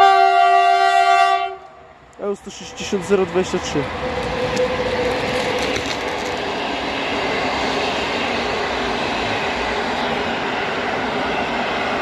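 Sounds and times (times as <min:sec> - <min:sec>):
faint train whine: 0:00.0 - 0:12.0
train wheels rumbling on rails: 0:01.6 - 0:12.0.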